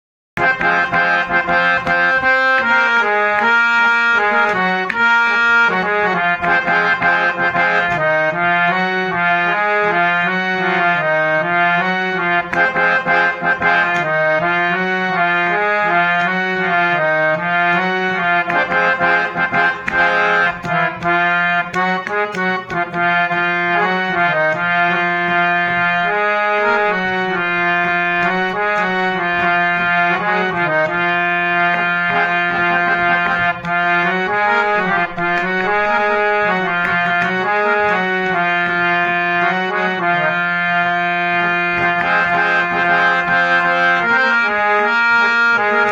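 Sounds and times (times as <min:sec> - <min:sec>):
harmonium melody: 0:00.4 - 0:45.9.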